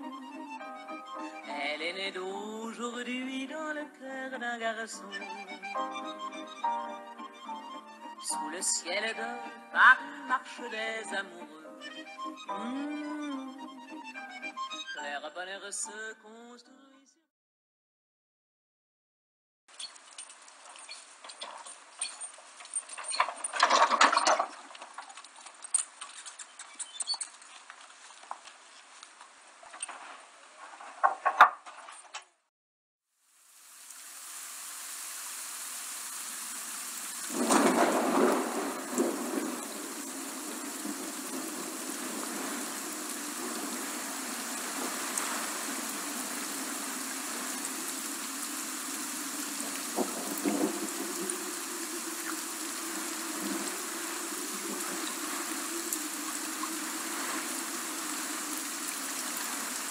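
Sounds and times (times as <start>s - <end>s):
steady rain hiss: 0.0s - 14.8s, 19.7s - 31.4s, 33.2s - 59.9s.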